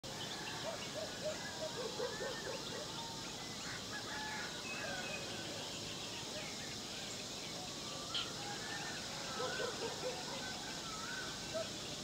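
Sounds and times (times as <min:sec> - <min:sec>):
steady background hiss: 0:00.0 - 0:12.0
birds calling and whistling: 0:00.1 - 0:05.8, 0:06.5 - 0:12.0.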